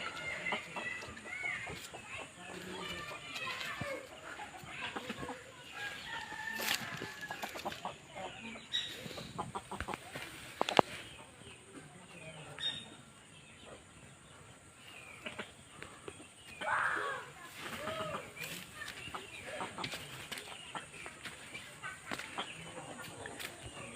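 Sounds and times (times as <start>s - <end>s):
chickens clucking: 0.0s - 23.9s.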